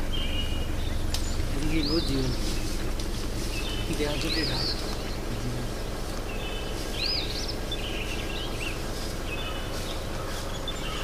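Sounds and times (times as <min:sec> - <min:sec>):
bird warbling: 0:00.0 - 0:11.0
birds chirping: 0:00.0 - 0:11.0
low hum: 0:00.0 - 0:11.0.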